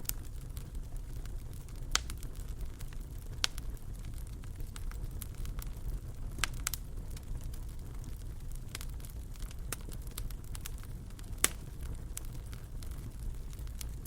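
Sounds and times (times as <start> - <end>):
fire crackling and popping: 0.0 - 14.0
low steady rumble: 0.0 - 14.0.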